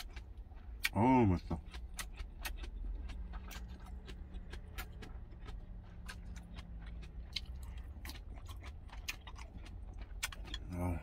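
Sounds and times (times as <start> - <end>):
chewing with wet mouth clicks: 0.0 - 11.0
low engine hum: 0.0 - 11.0.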